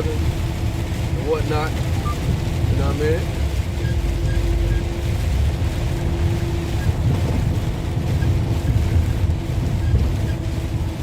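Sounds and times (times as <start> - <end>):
truck engine and tyre rumble: 0.0 - 11.0.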